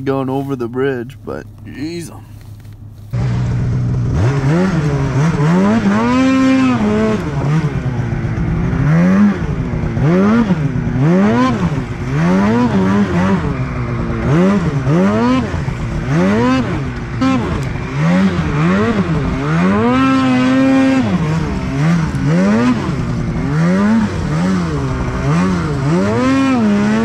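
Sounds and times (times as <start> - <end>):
snowmobile engine revving: 3.2 - 27.0.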